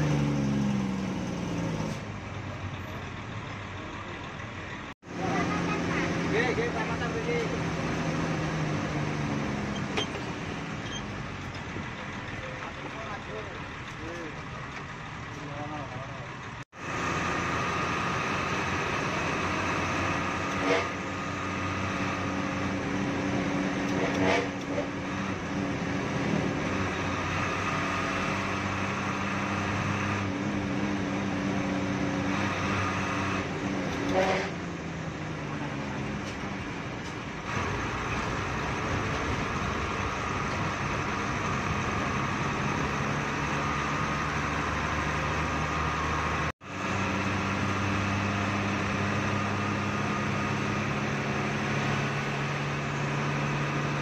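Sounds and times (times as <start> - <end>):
diesel bus engine running: 0.0 - 54.0
road and rattle noise: 0.0 - 54.0.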